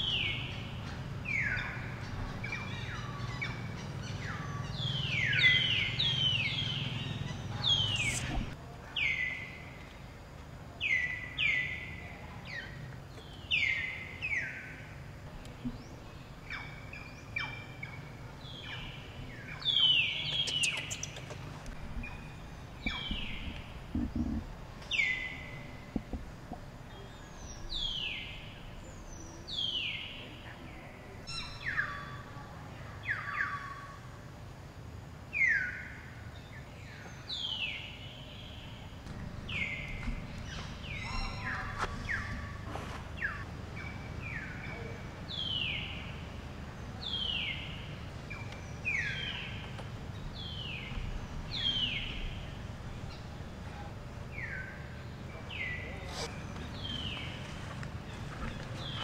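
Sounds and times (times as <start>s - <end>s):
bird calling with high chirps: 0.0s - 9.6s, 15.5s - 26.2s, 26.8s - 32.3s, 35.4s - 59.0s.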